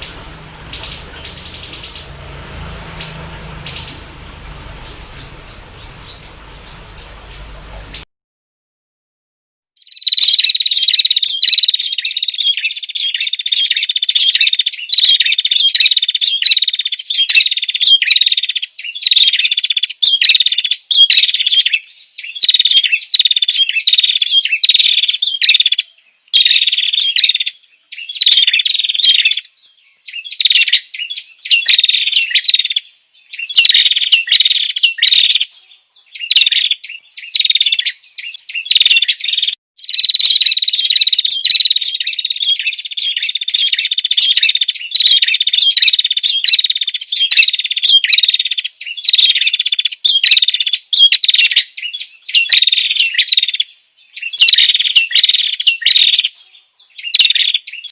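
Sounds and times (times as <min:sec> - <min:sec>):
small songbird chirping: 0:00.0 - 0:08.0, 0:09.8 - 0:57.9.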